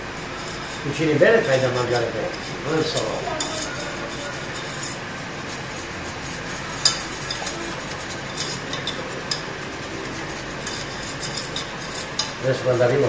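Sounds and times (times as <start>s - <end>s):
steady background hiss: 0.0s - 13.0s
whisk stirring in saucepan: 0.0s - 13.0s
whisk clinking against pan: 0.2s - 13.0s.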